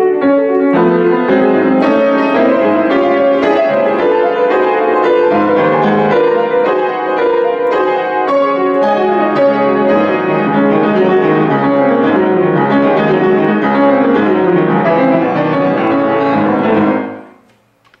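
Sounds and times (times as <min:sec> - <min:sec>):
grand piano played fast: 0:00.0 - 0:17.4.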